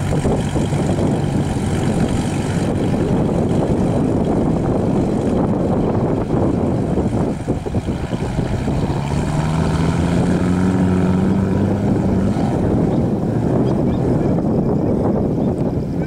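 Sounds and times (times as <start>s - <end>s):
water splashing around wheels: 0.0s - 14.1s
jeep engine under load: 0.0s - 15.2s.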